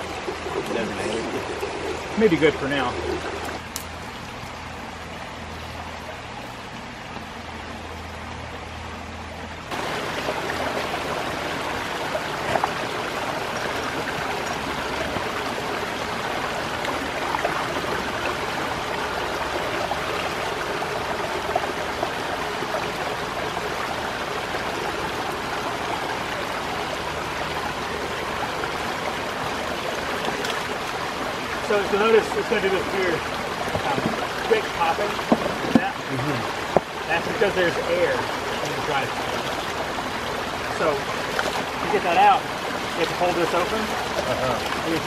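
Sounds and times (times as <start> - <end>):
creek water flowing over rocks: 0.0 - 45.0.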